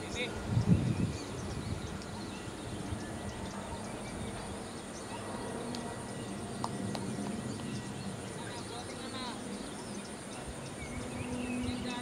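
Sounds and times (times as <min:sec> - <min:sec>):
faint high chirps and ticks: 0:00.6 - 0:12.0.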